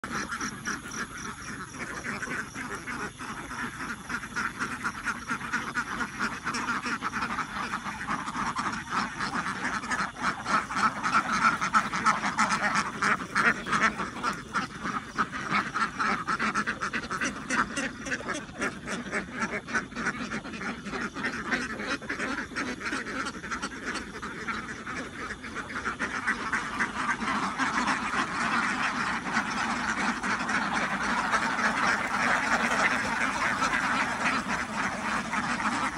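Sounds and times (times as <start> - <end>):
flock of ducks quacking: 0.0 - 35.9.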